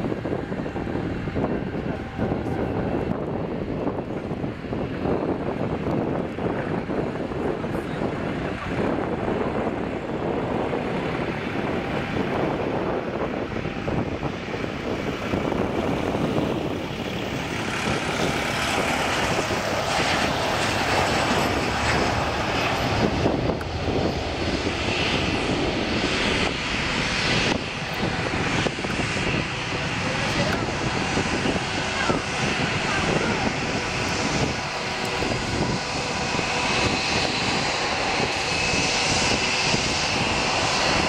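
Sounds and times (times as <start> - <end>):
jet engines at takeoff: 0.0 - 41.0.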